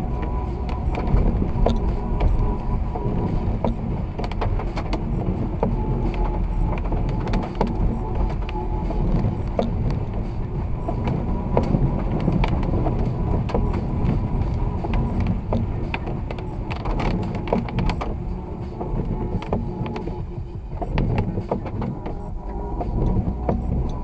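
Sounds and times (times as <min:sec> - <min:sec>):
car tyres on snowy road: 0:00.0 - 0:24.0.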